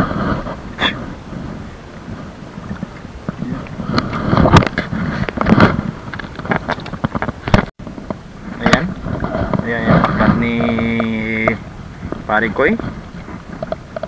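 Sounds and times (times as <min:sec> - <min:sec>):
knocks and rattles on a boat: 0:00.0 - 0:14.0
wind buffeting the microphone: 0:00.0 - 0:14.0.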